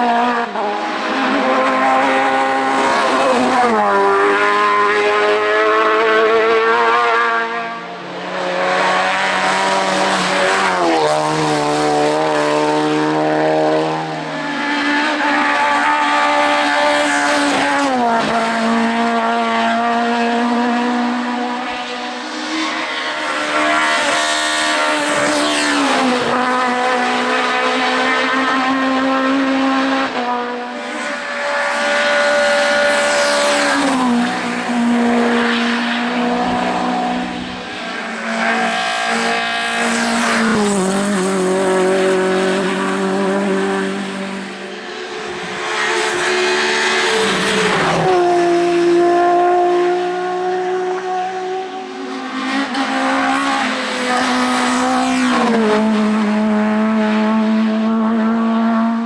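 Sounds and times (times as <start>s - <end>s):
race car engines at full throttle: 0.0s - 59.0s.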